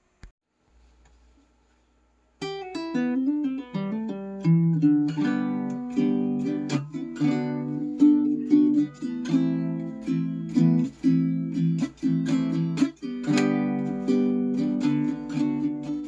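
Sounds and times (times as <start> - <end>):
baritone ukulele playing: 2.4 - 16.0.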